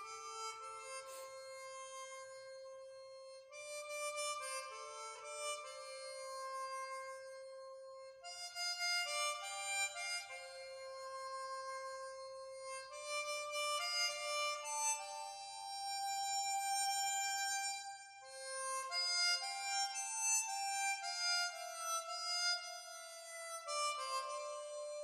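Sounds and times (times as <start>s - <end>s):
slow melody of long held notes: 0.0s - 25.0s.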